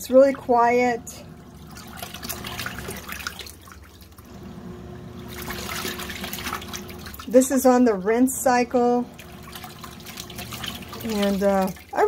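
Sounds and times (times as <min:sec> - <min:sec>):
washing machine motor hum: 0:00.0 - 0:12.0
water sloshing and trickling: 0:00.0 - 0:12.0.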